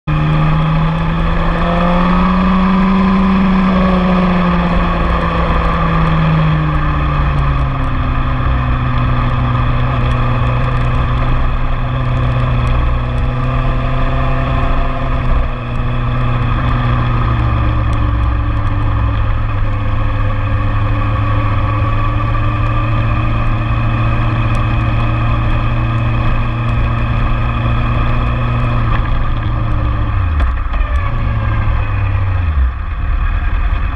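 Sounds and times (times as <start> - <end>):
motorcycle engine running hard: 0.0 - 33.9.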